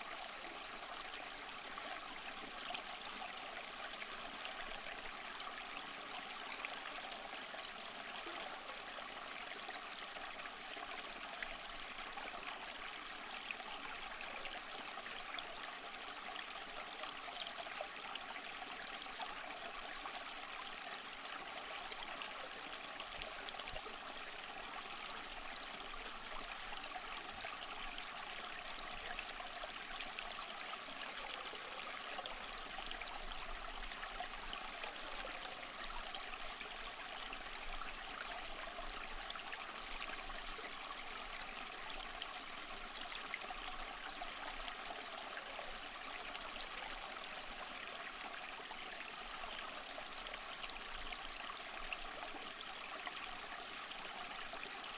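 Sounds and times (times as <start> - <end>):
stream running over stones: 0.0 - 54.9.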